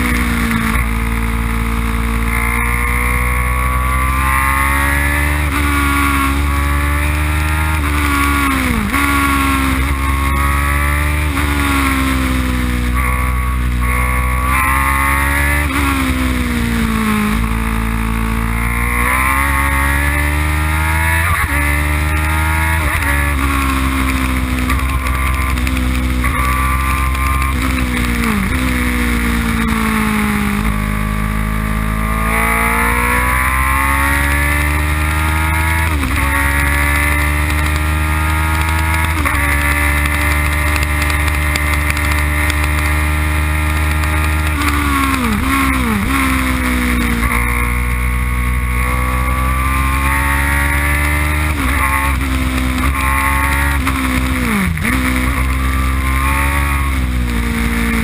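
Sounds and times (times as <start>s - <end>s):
race car engine accelerating: 0.0s - 58.0s
wind and road noise: 0.0s - 58.0s.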